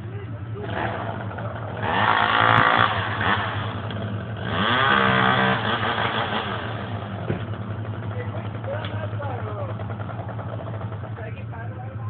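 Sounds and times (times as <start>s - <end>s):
engine revving: 0.0s - 11.4s
engine idling: 0.0s - 12.0s.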